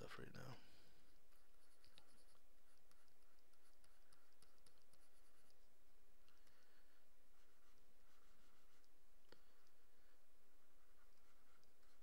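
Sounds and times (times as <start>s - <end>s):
stylus pen scratching on tablet: 1.1s - 5.7s, 6.3s - 12.0s.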